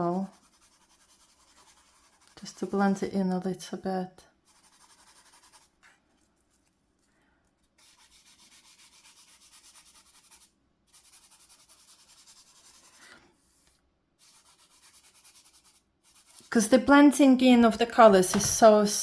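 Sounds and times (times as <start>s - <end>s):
rubbing on paper: 0.0s - 3.0s, 4.4s - 19.0s.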